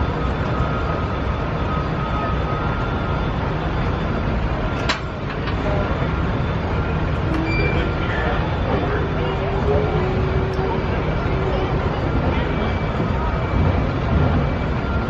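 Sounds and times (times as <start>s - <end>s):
tram engine rumble: 0.0s - 15.0s.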